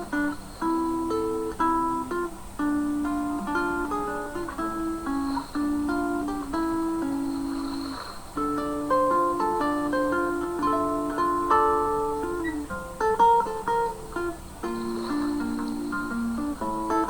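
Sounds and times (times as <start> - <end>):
gentle acoustic guitar music: 0.0 - 17.0.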